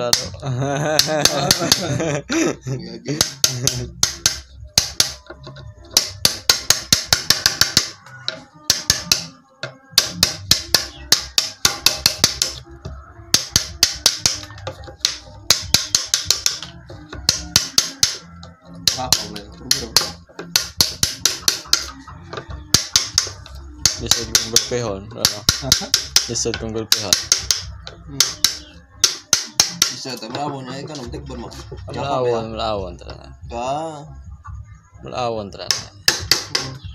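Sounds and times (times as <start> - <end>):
mallet tapping wood chisel: 0.0 - 0.4, 1.0 - 1.9, 3.1 - 32.0, 35.6 - 36.9.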